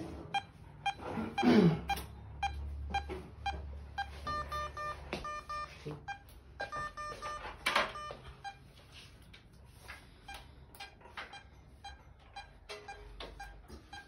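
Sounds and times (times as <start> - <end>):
patient monitor beeping: 0.0 - 8.7, 10.1 - 14.0.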